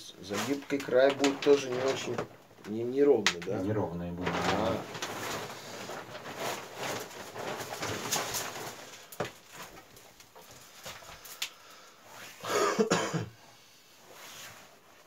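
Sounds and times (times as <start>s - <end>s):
willow rods rustling and scraping: 0.0s - 12.4s, 14.0s - 15.0s.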